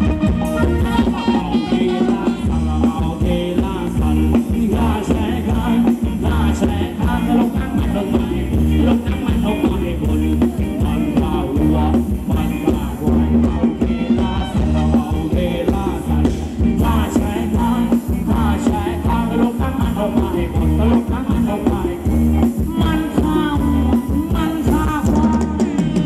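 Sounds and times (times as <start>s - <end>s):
live band playing dance music: 0.0s - 26.0s
person singing: 0.0s - 26.0s.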